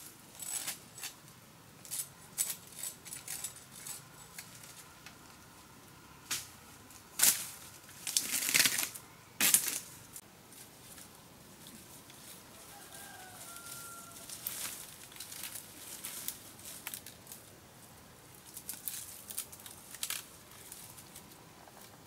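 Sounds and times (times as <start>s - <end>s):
dry leaves crackling underfoot: 0.0s - 21.4s.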